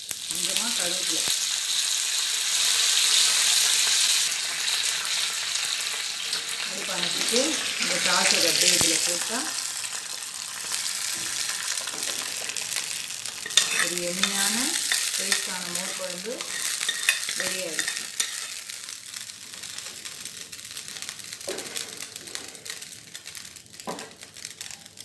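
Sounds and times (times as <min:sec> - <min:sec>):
leaves and seeds sizzling in oil: 0:00.0 - 0:25.0.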